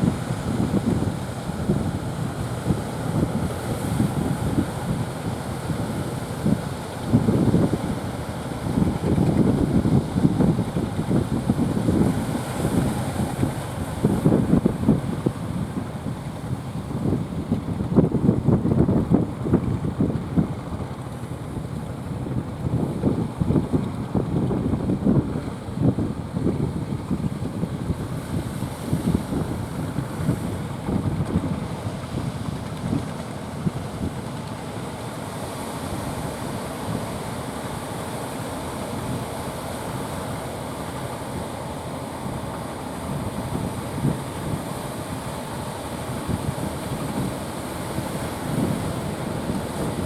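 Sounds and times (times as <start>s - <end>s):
sea surf rushing: 0.0s - 50.0s
wind buffeting the microphone: 0.0s - 50.0s.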